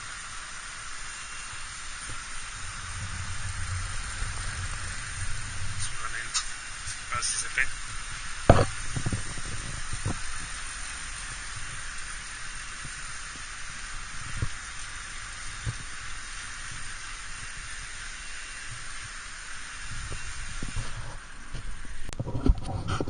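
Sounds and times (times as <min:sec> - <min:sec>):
air conditioner fan hissing: 0:00.0 - 0:23.0.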